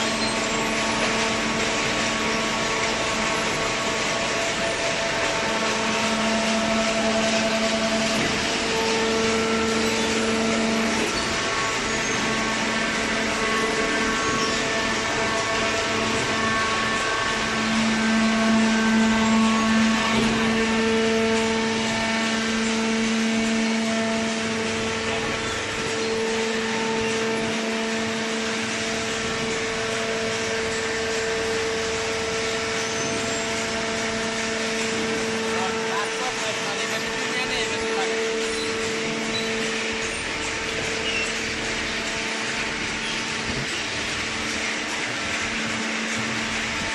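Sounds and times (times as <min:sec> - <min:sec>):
hydraulic power unit hum and whine: 0:00.0 - 0:46.9.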